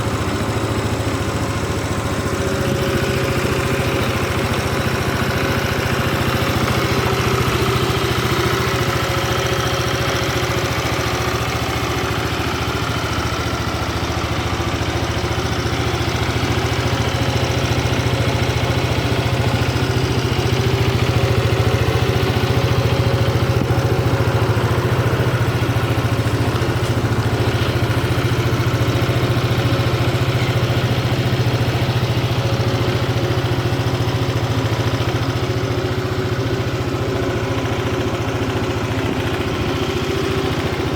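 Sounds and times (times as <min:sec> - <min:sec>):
scooter engine idling: 0:00.0 - 0:40.9.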